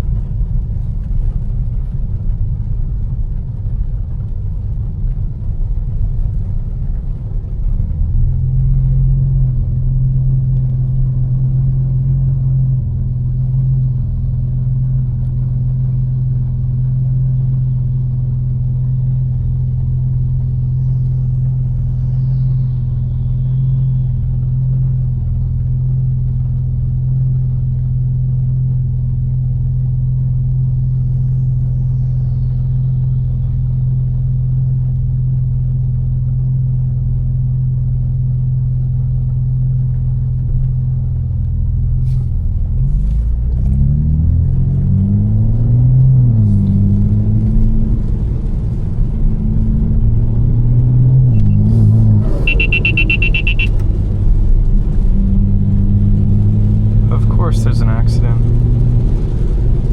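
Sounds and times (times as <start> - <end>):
car engine droning and accelerating: 0.0 - 59.9.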